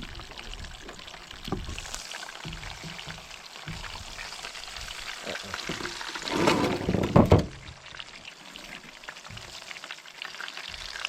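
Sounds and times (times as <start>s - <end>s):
meat sizzling in a frying pan: 0.0s - 6.3s, 7.4s - 11.0s.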